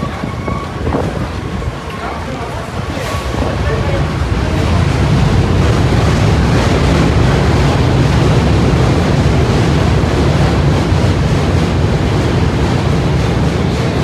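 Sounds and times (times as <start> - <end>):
subway train rumbling past: 0.0 - 14.0.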